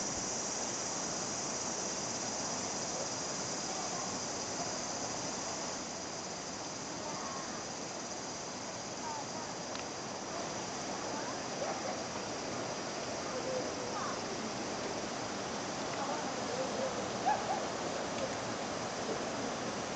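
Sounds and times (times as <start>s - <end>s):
river flowing: 0.0s - 19.9s.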